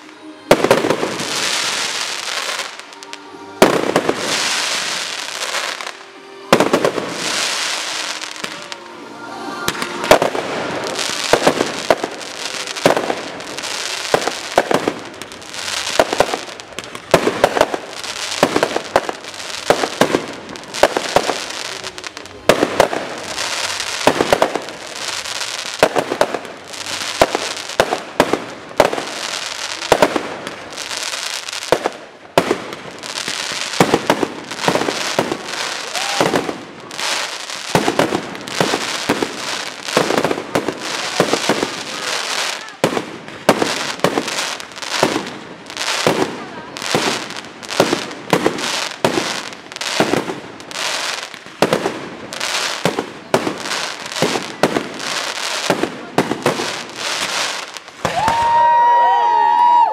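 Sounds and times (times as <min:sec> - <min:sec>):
crackling hiss of fireworks: 0:00.0 - 0:59.9.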